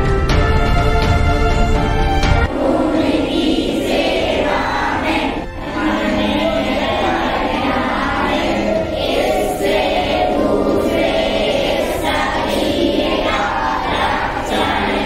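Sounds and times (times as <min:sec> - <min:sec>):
girls chanting in unison: 0:02.5 - 0:15.0.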